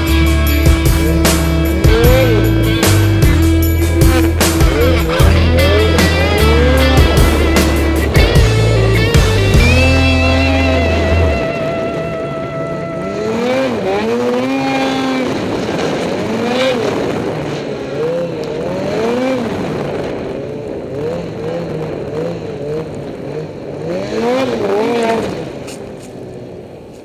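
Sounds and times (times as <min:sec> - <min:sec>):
snowmobile engine revving: 0:00.0 - 0:26.9.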